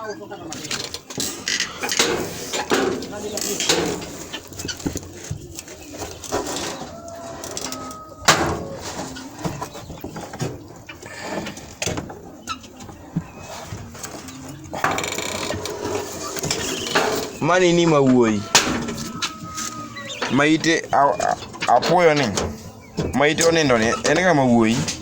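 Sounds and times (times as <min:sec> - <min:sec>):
background voices: 0:00.0 - 0:25.0
poultry calls: 0:00.0 - 0:25.0.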